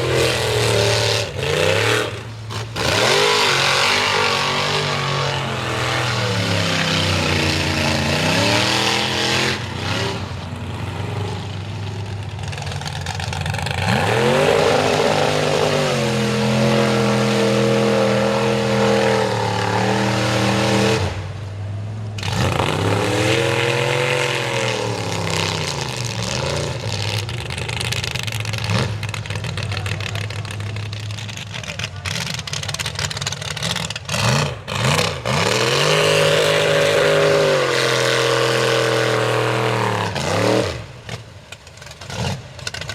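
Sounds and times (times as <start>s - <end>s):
truck engine revving hard: 0.0s - 42.9s.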